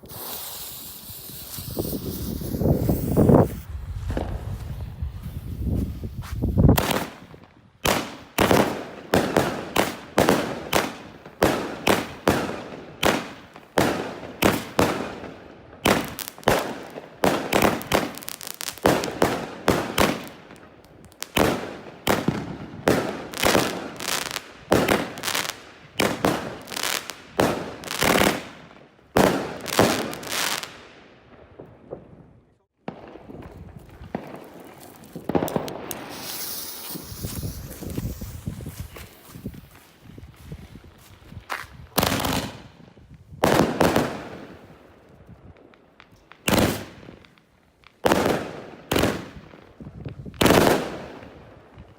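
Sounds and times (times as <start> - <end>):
fireworks banging and crackling: 0.0 - 31.0, 32.8 - 51.9.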